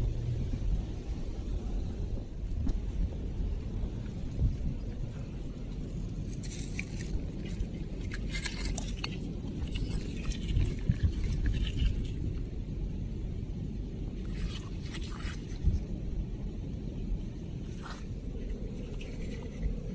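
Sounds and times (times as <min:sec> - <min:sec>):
low rumble: 0:00.0 - 0:19.9.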